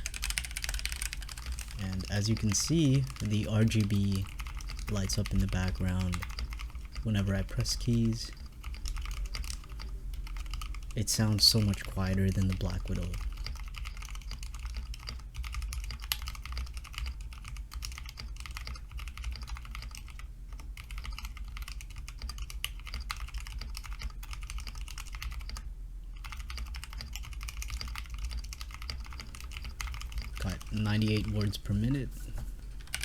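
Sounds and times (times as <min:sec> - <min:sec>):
mechanical keyboard typing: 0:00.0 - 0:32.0, 0:32.6 - 0:33.0.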